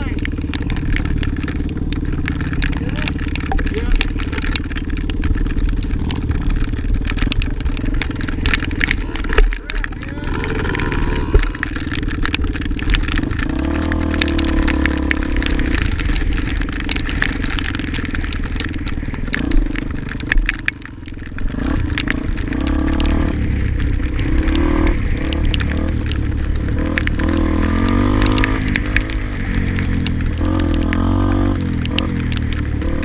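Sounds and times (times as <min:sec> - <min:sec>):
motorcycle engine revving: 0:00.0 - 0:33.0
sharp clicks and clatter: 0:00.0 - 0:33.0.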